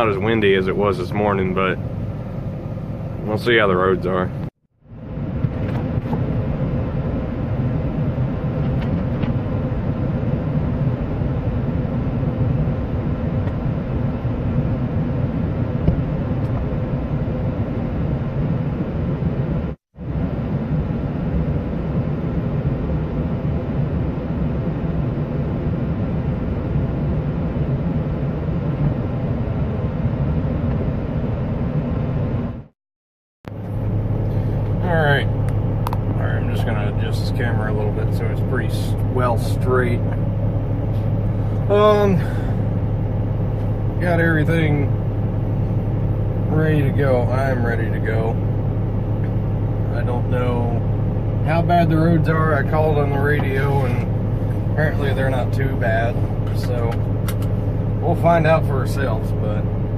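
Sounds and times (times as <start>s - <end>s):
truck engine running: 0.0s - 32.7s, 33.5s - 59.9s.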